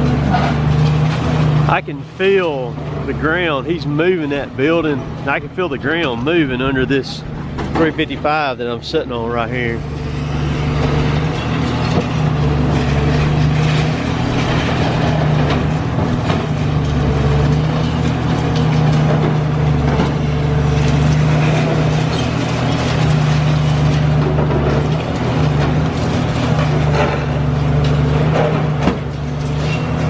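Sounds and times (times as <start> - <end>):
diesel excavator engine running: 0.0 - 30.0.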